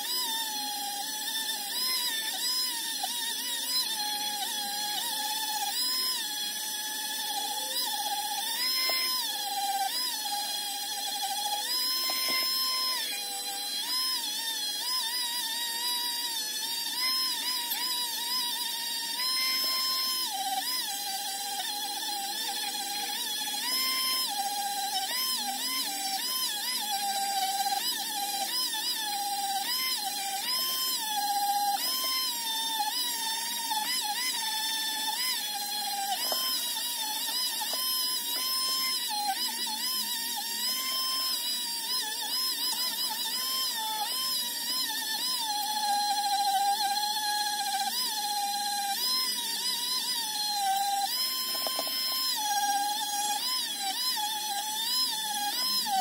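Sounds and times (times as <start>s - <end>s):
rotary tool motor whining: 0.0s - 56.0s.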